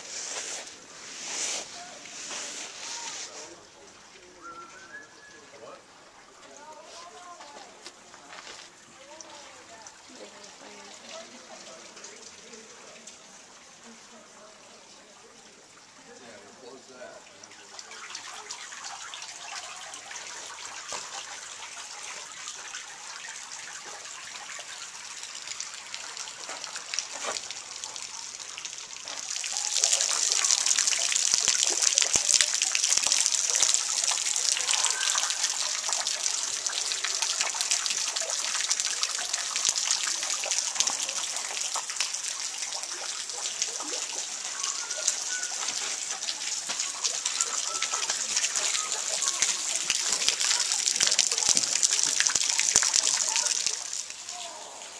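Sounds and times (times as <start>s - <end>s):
water dripping into a pool: 3.5s - 54.9s.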